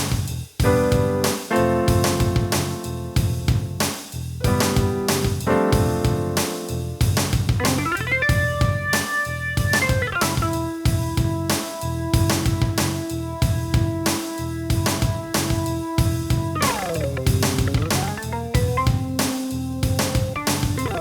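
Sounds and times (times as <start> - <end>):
drum machine beat with bass: 0.0 - 21.0
keyboard chords: 0.6 - 21.0
organ line: 0.7 - 21.0.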